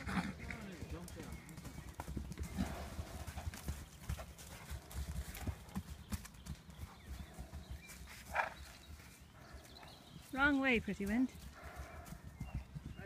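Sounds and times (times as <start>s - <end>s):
horse hoofbeats galloping on grass: 0.0s - 13.0s.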